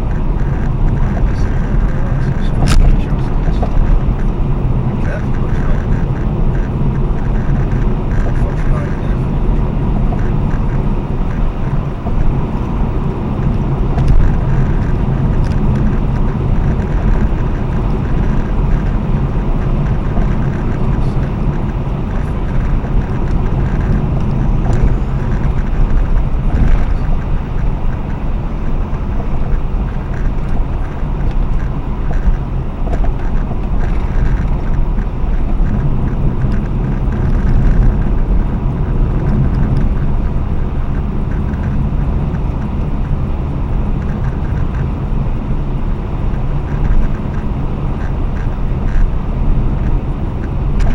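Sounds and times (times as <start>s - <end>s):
car road noise: 0.0s - 50.9s
wind on microphone: 0.0s - 50.9s.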